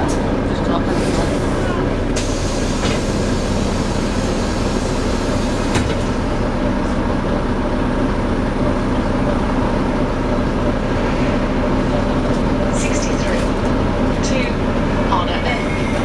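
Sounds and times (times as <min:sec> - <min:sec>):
bus axle drone: 0:00.0 - 0:16.0
bus running rumble: 0:00.0 - 0:16.0.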